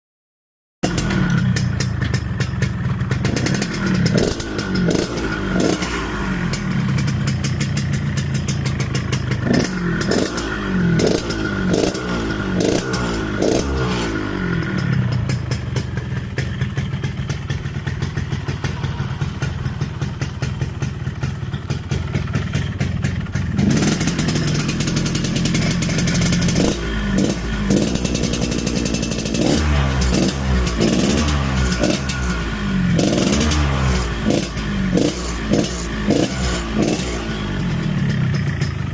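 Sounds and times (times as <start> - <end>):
motorcycle engine revving: 0.8 - 38.9.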